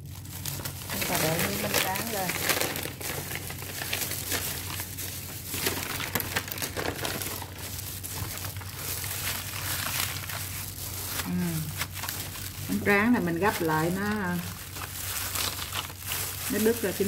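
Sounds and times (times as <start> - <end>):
plastic gloves crinkling: 0.0 - 17.0.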